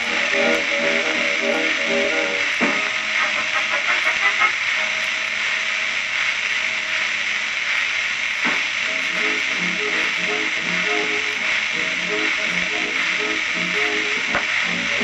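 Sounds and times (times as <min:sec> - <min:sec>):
record surface hiss: 0:00.0 - 0:15.0.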